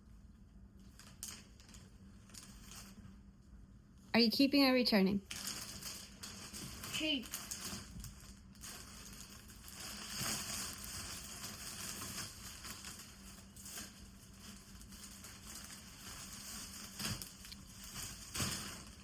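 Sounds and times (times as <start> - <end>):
plastic packaging crinkling: 0.8 - 3.2, 5.2 - 19.0.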